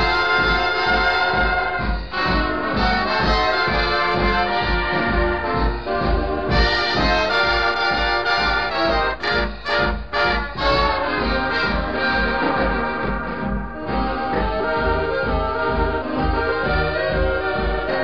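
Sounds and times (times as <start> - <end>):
swing big band playing: 0.0 - 18.0.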